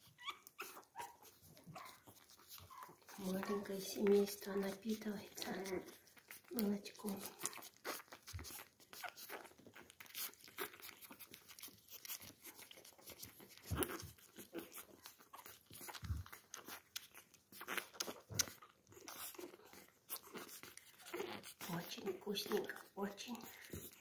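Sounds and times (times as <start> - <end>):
puppies suckling wet smacking: 0.0 - 24.0.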